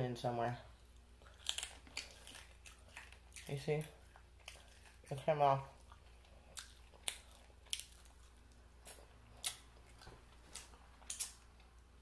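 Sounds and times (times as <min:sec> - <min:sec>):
chewing and mouth smacks: 0:00.9 - 0:11.9.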